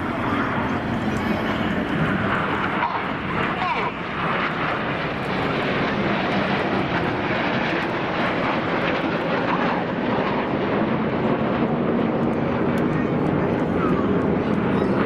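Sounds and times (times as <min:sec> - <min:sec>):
jets flying overhead: 0:00.0 - 0:15.0.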